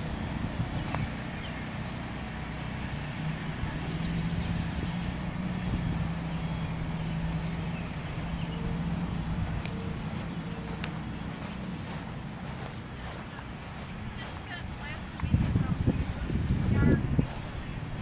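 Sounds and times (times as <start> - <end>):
generators humming: 0.0 - 18.0.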